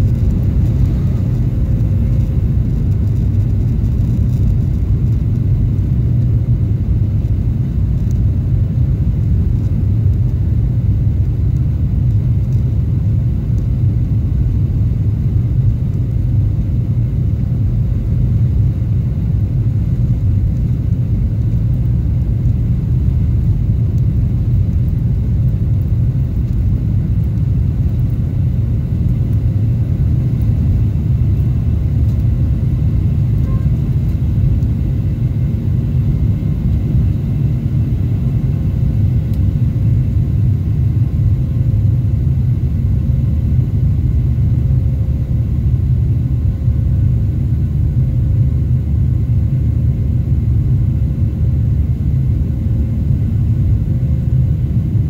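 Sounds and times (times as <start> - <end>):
wheels rumbling on runway: 0.0 - 47.3
jet engines at takeoff thrust: 0.0 - 55.0.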